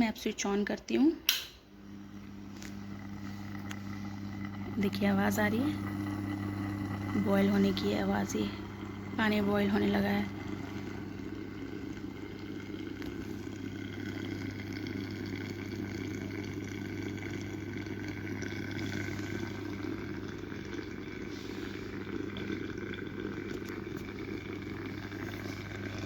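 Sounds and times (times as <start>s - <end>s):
low hum: 1.3s - 26.0s
water boiling in vaporizer: 1.6s - 26.0s.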